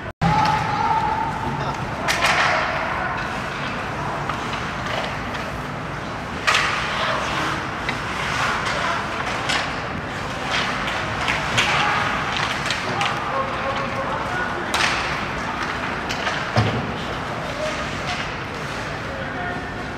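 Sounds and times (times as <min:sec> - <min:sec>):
murmur of spectators: 0:00.0 - 0:19.9.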